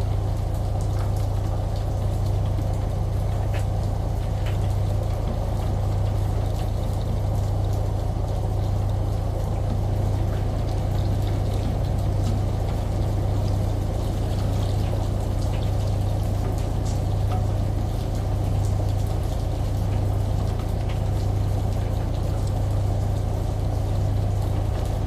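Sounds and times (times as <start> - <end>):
rain: 0.0 - 25.0
shower water running: 0.0 - 25.0
washing machine hum: 0.0 - 25.0.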